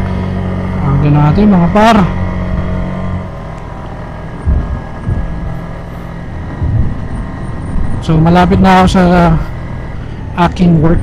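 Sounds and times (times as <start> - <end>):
motorcycle engine hum: 0.0 - 11.0
road noise: 0.0 - 11.0
wind rumble on microphone: 0.0 - 11.0.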